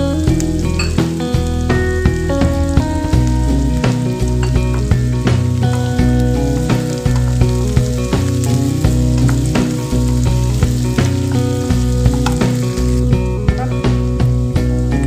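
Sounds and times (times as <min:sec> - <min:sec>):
background music: 0:00.0 - 0:15.0
onions sizzling in hot oil: 0:00.0 - 0:15.0.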